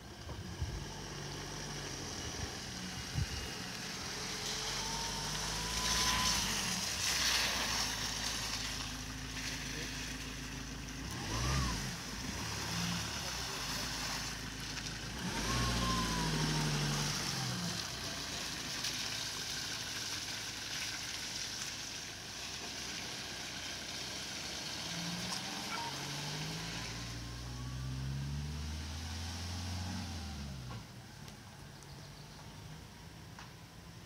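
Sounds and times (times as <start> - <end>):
truck engine accelerating: 0.0 - 19.7, 22.6 - 33.5.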